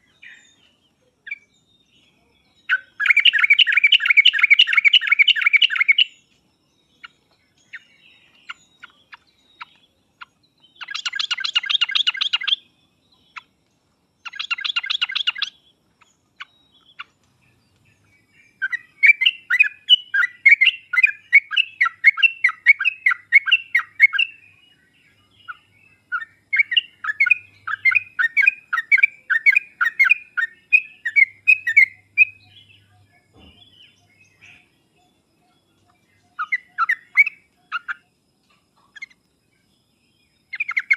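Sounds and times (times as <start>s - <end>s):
bird chattering and whistling: 2.6s - 6.2s, 7.0s - 13.6s, 14.2s - 38.1s, 38.8s - 39.2s, 40.5s - 40.9s.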